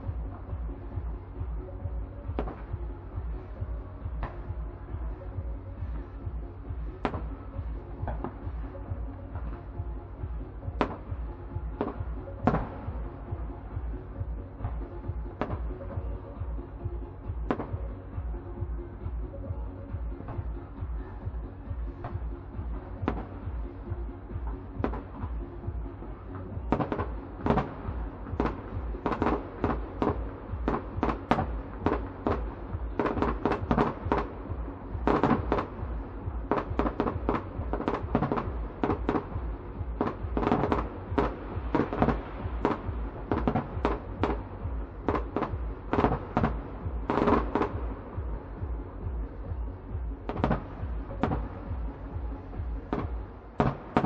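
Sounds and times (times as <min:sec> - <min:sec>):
fireworks bursting: 0:00.0 - 0:18.6, 0:20.0 - 0:54.0.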